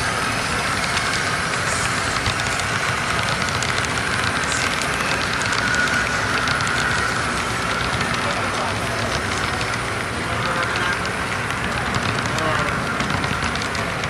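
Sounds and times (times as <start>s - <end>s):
model train wheels rolling on rails: 0.0s - 14.0s.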